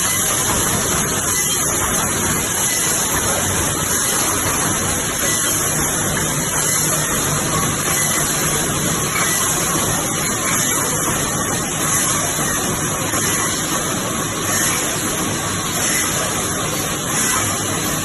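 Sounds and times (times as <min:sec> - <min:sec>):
production line machine noise: 0:00.0 - 0:18.0.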